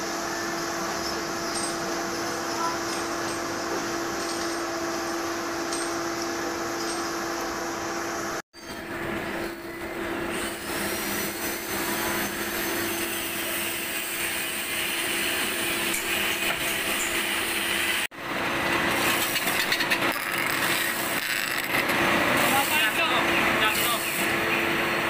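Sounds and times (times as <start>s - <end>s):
harsh metal cutting noise: 0.0s - 25.0s.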